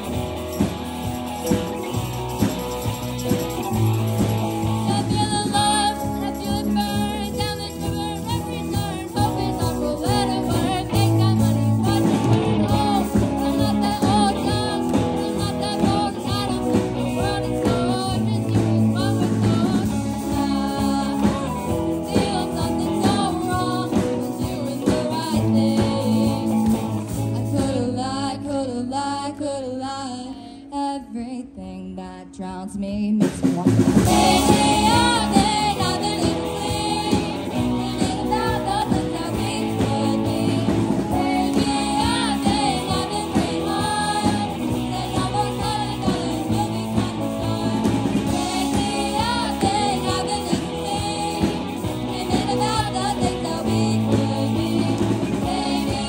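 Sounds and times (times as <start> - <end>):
live rock band playing: 0.0 - 28.0, 33.4 - 56.0
person singing: 1.4 - 56.0.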